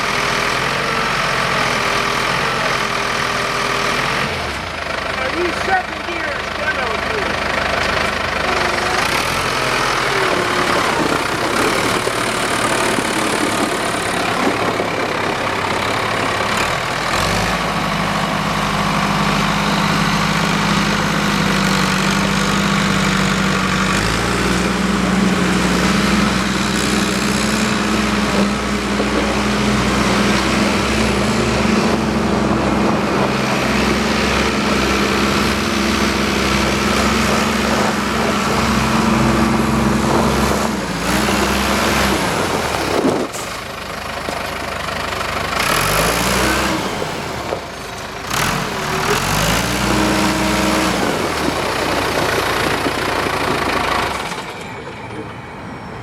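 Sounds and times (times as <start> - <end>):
forklift diesel engine running: 0.0 - 56.0.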